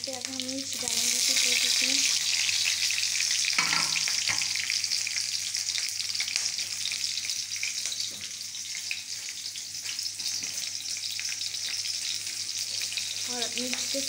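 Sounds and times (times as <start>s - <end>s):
garlic sizzling in hot oil: 0.0s - 14.0s.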